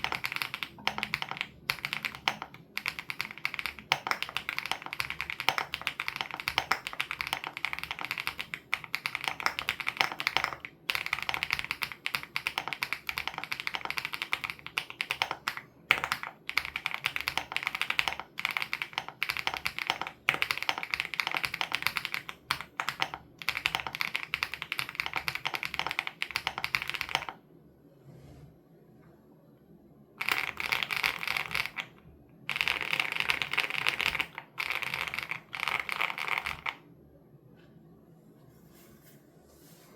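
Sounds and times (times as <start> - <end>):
mechanical keyboard typing: 0.0 - 27.4, 30.2 - 36.8.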